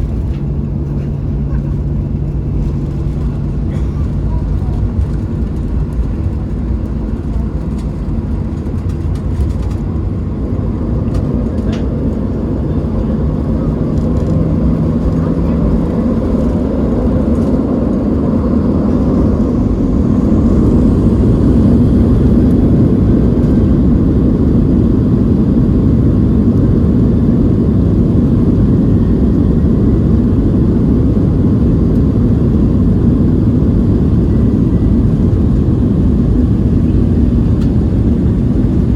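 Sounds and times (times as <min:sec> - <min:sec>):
jet engines and airframe rumble: 0:00.0 - 0:38.9.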